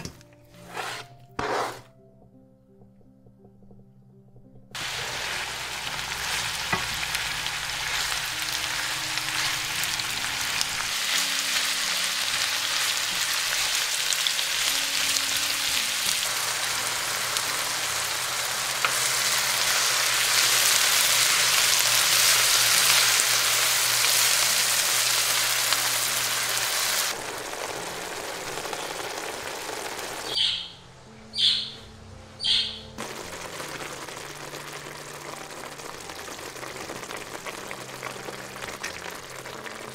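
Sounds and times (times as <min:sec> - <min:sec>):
onions sizzling in a frying pan: 0:04.8 - 0:30.4, 0:33.0 - 0:39.9.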